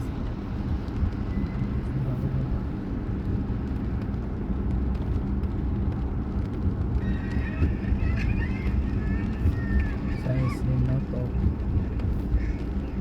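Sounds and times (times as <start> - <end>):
constant low hum: 0.0 - 13.0
engine and road rumble: 0.0 - 13.0.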